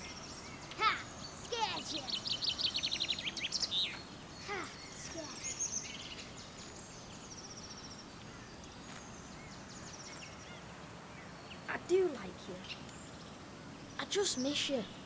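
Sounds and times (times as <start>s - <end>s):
birds singing: 0.0s - 15.0s
faint background hiss: 0.0s - 15.0s.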